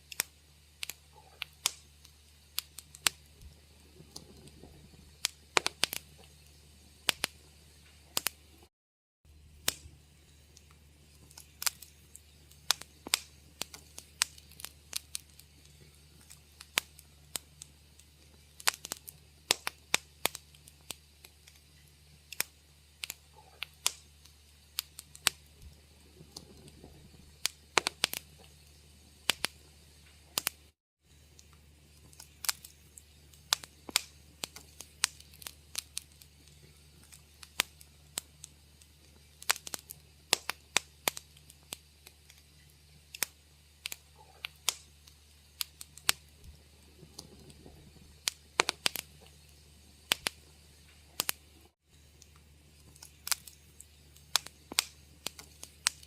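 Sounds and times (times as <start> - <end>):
steady low hum: 0.0 - 8.7, 9.3 - 56.0
wood fire crackling: 0.0 - 8.7, 9.3 - 56.0.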